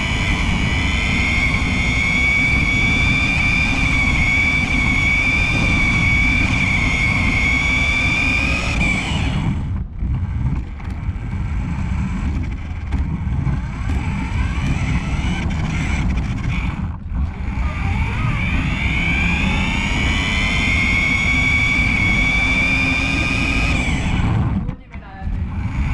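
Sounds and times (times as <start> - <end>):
low rumble of tyres: 0.0 - 25.9
rc car motor whine: 0.0 - 25.9.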